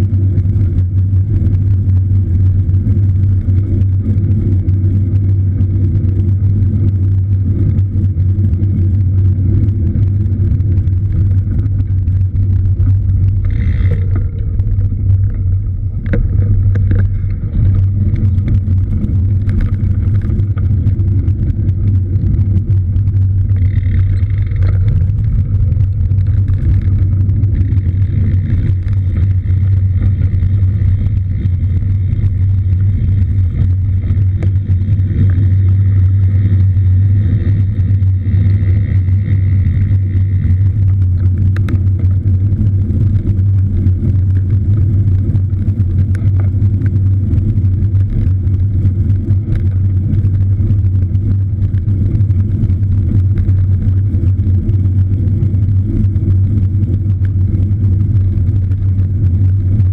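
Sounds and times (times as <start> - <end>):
faint high whine: 0.0 - 59.9
wind and rolling noise: 0.0 - 59.9.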